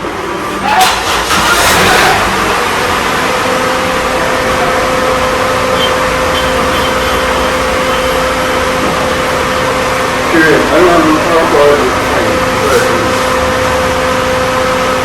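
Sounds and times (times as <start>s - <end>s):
car engine running steadily: 0.0s - 15.0s.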